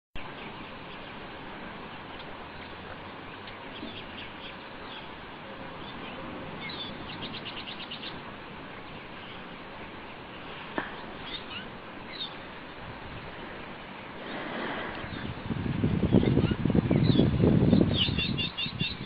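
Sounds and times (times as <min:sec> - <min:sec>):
small birds chirping: 0:00.2 - 0:19.0
steady background hiss: 0:00.2 - 0:19.0.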